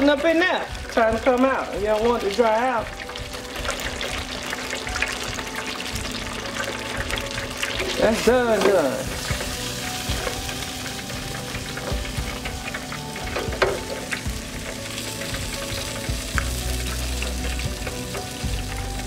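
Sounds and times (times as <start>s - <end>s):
oil sizzling in deep fryer: 0.0s - 19.0s.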